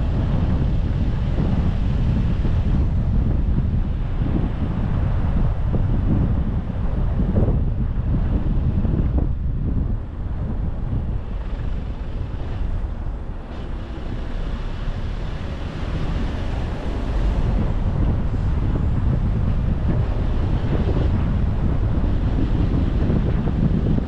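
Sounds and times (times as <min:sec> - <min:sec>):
car driving on road: 0:00.0 - 0:24.0
wind buffeting microphone: 0:00.0 - 0:24.0.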